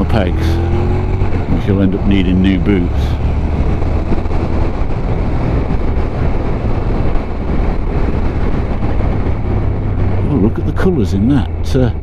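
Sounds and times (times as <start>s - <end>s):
motorcycle engine drone: 0.0s - 12.0s
wind buffeting microphone: 0.0s - 12.0s.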